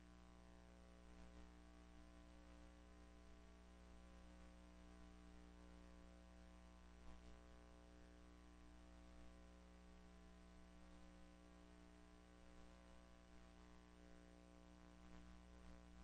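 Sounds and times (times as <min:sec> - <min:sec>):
faint mains hum and hiss: 0:00.0 - 0:16.0.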